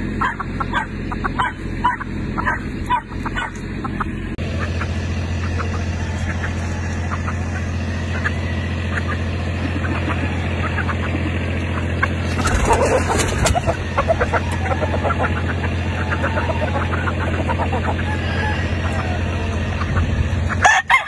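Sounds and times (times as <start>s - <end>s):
low hum: 0.0s - 20.7s
chickens clucking: 0.0s - 21.0s.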